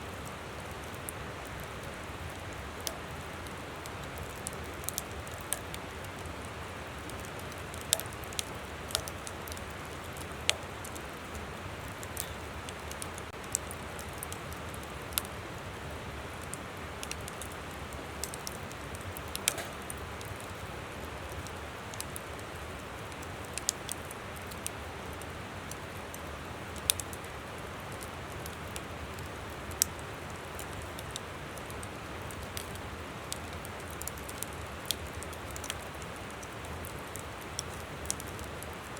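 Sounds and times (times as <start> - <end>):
campfire crackling and popping: 0.1 - 38.9.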